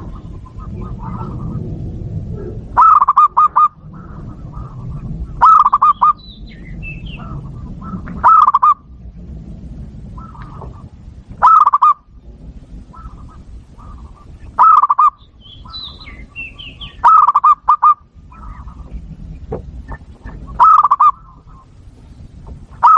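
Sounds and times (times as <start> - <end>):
dove cooing loud rolling phrases: 0.0 - 9.0, 10.0 - 21.8
soft cooing of doves: 0.0 - 9.0, 10.0 - 22.9.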